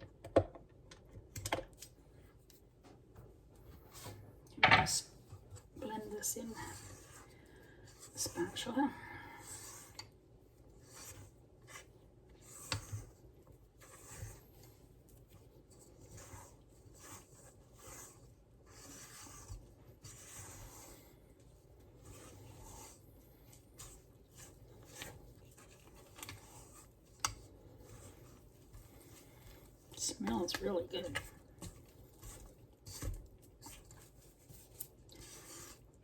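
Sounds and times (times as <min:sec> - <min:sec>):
spatula scraping batter in bowl: 0:05.0 - 0:36.0.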